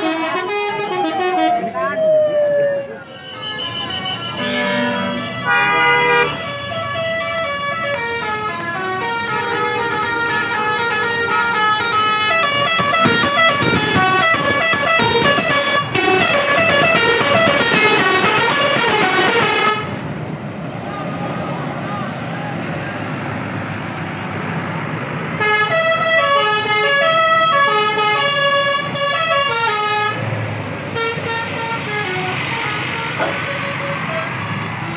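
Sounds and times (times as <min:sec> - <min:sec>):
bus horns playing melodic tunes: 0:00.0 - 0:01.7, 0:03.1 - 0:20.2, 0:25.4 - 0:34.8.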